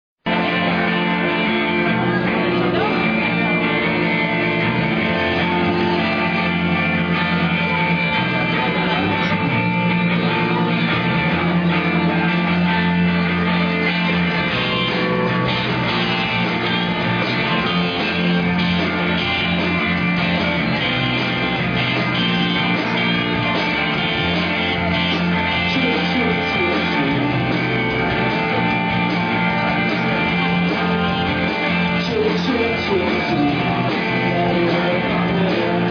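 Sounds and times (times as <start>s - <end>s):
rock band playing live: 0.2s - 35.9s.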